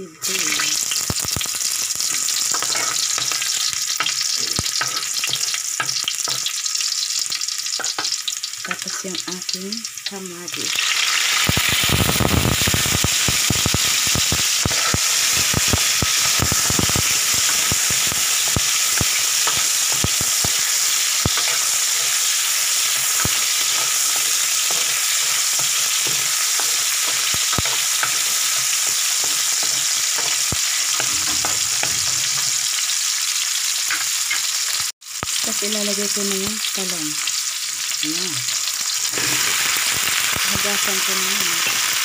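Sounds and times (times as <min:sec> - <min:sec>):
vegetables sizzling in hot oil: 0:00.0 - 0:42.0.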